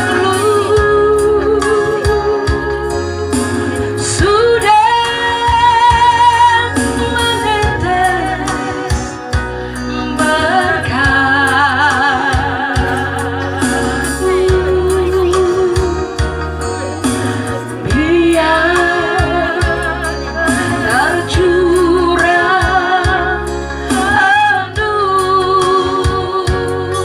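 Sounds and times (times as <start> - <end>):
woman singing with vibrato: 0.0 - 16.3, 17.8 - 27.0
bass and keyboard accompaniment: 0.0 - 27.0.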